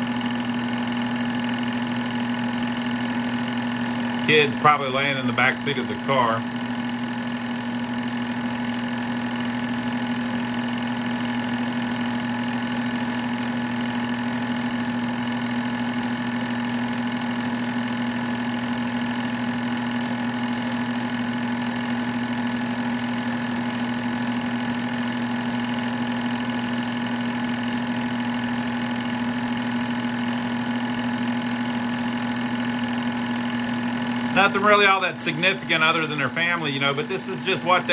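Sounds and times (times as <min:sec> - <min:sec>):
film projector running: 0:00.0 - 0:37.9.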